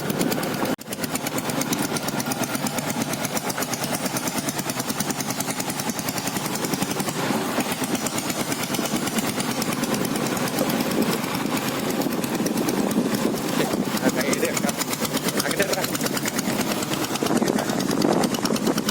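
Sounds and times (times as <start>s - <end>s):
diesel motorcycle engine knocking: 0.0s - 18.9s.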